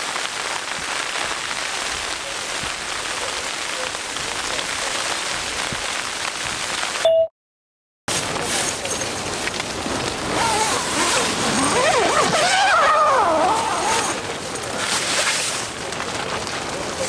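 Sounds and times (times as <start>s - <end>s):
wind-driven snow hissing on tent: 0.0s - 7.0s, 8.1s - 17.0s.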